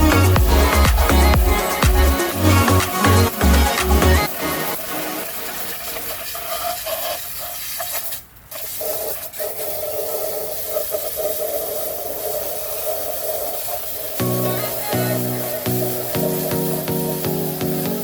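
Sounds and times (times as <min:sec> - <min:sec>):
spray hissing: 0:00.0 - 0:18.0.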